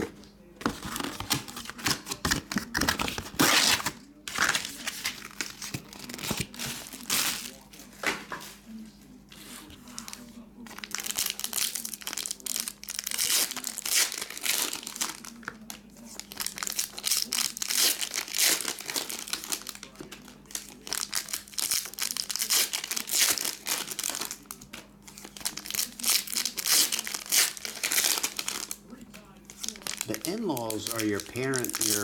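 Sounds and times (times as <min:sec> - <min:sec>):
foil wrappers tearing and crinkling: 0:00.6 - 0:07.8, 0:09.9 - 0:28.9, 0:29.5 - 0:32.0.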